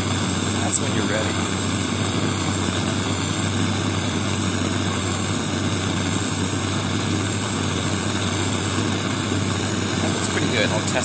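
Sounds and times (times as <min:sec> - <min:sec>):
blowtorch flame rushing: 0:00.0 - 0:11.0.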